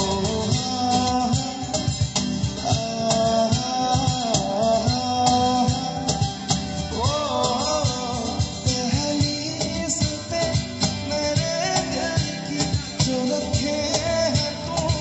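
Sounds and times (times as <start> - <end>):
acoustic guitar: 0.0 - 15.0
cajon beats: 0.0 - 15.0
man singing into microphone: 0.0 - 15.0.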